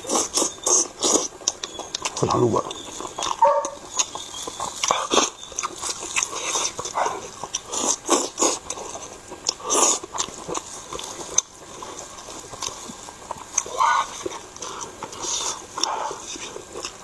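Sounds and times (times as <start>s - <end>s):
wet chewing smacks: 0.0s - 17.0s.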